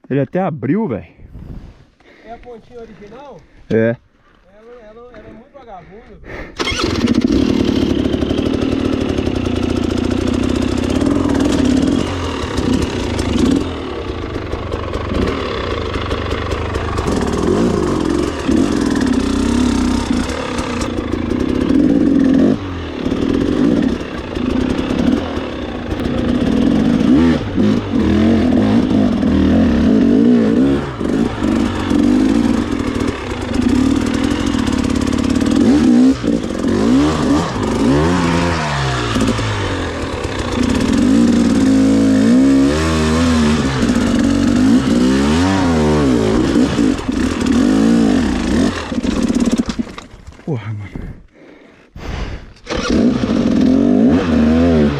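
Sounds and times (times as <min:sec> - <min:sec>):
motorcycle engine revving: 0:06.6 - 0:50.2, 0:52.2 - 0:54.9.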